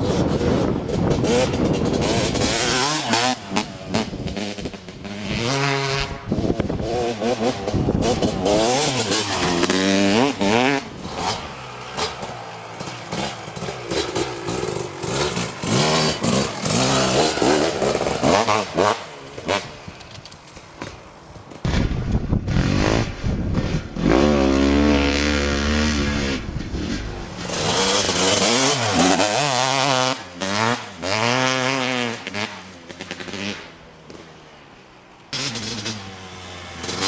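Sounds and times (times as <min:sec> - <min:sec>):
two-stroke engine revving: 0:00.0 - 0:20.0, 0:22.5 - 0:34.2, 0:35.3 - 0:37.0.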